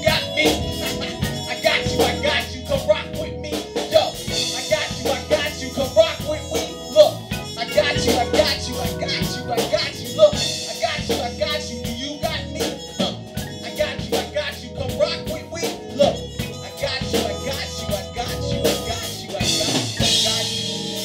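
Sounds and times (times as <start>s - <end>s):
drum kit beat: 0.0s - 21.0s
electric bass: 0.0s - 21.0s
keyboard: 0.0s - 21.0s.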